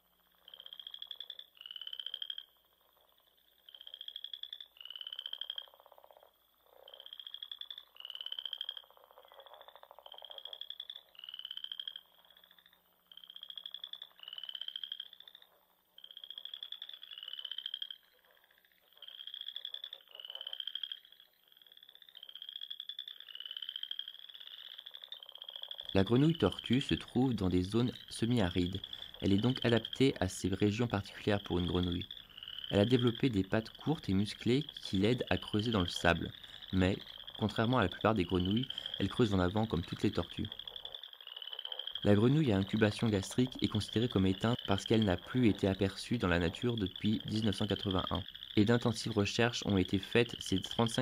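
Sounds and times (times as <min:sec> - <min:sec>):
frogs calling: 0:00.0 - 0:51.0.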